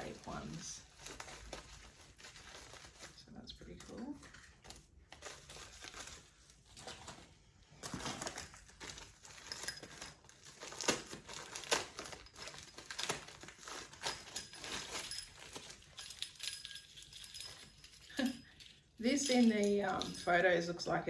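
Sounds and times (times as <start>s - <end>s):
plastic packaging crinkling: 0.0s - 20.5s.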